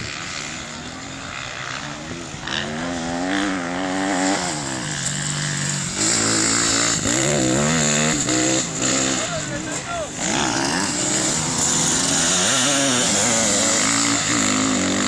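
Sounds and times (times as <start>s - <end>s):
drone of race engines: 0.0s - 15.0s
racing engine revving hard: 2.4s - 15.0s.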